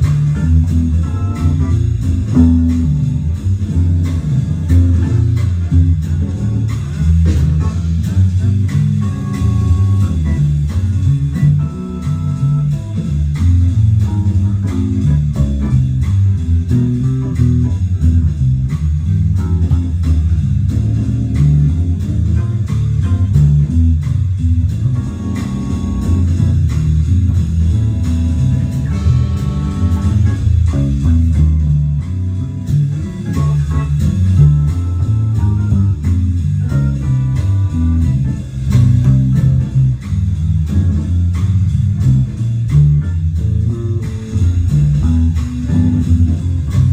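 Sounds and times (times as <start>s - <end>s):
bass guitar: 0.0s - 46.9s
steady beat: 0.0s - 46.9s.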